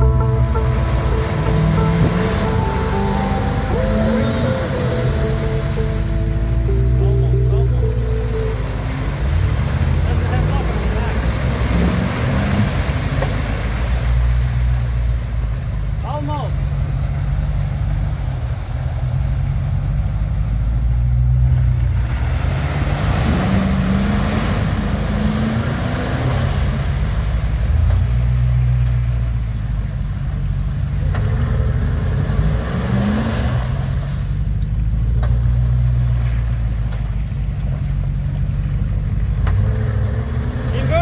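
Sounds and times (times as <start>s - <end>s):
engine running under load: 0.0s - 41.0s
tyres churning mud: 0.0s - 41.0s.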